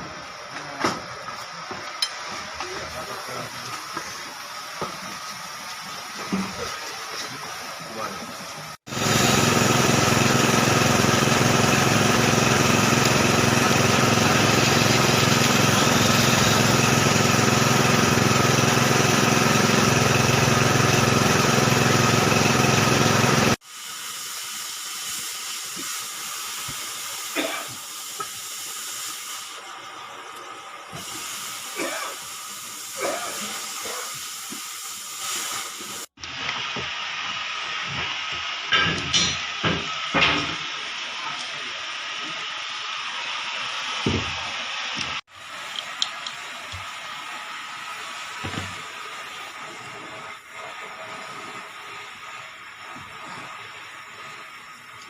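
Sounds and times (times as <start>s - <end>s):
hiss: 2.6s - 55.0s.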